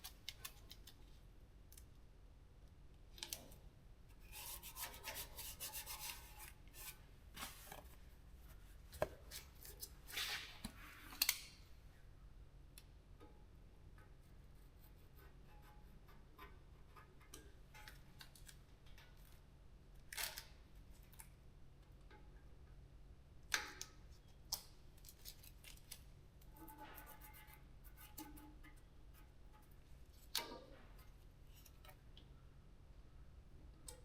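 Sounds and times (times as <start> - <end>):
room hum: 0.0 - 34.0.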